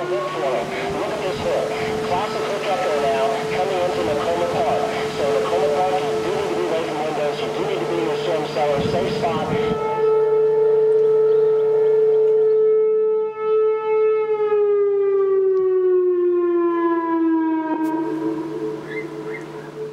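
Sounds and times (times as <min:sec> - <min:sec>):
warning siren steady tone: 0:00.0 - 0:19.9.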